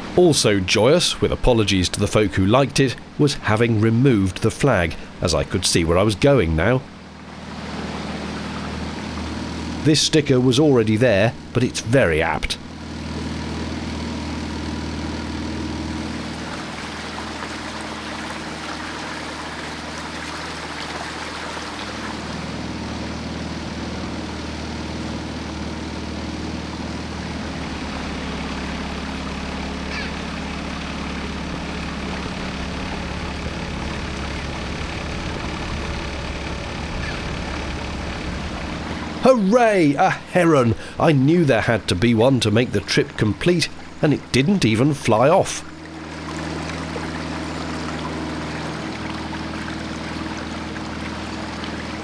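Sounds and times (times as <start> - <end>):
boat engine humming: 0.0 - 52.0
water wash: 0.0 - 52.0.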